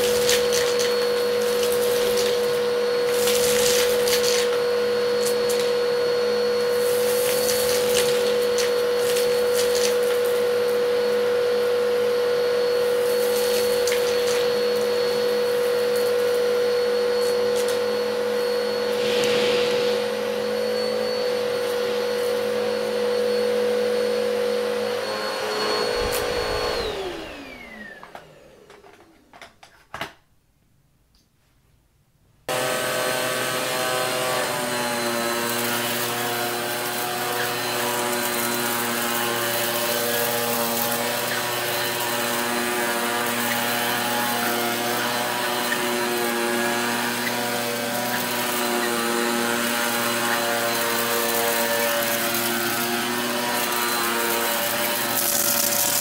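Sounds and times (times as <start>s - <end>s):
vacuum cleaner winding down: 0.0s - 29.3s, 32.5s - 56.0s
vacuum cleaner running: 0.0s - 29.4s, 32.5s - 56.0s.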